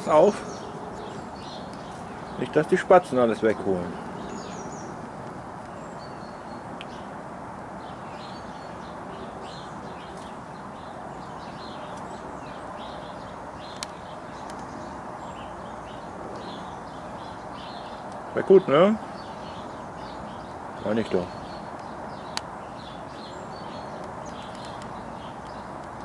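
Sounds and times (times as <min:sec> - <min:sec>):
sparrows chirping: 0:00.0 - 0:26.0.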